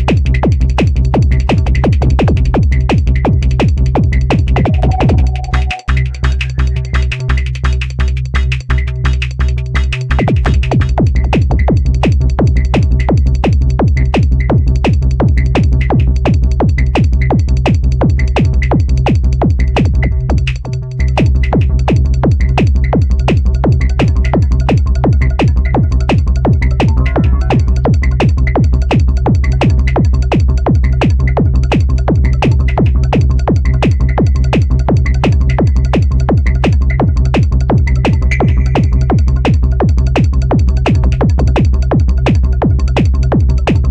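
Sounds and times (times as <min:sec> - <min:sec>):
drum machine beat: 0:00.0 - 0:07.7, 0:10.1 - 0:43.9
heavy synth bass: 0:00.0 - 0:43.9.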